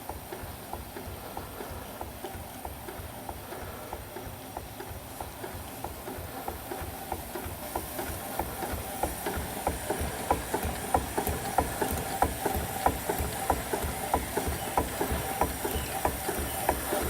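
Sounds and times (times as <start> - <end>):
steam traction engine running: 0.0 - 17.0.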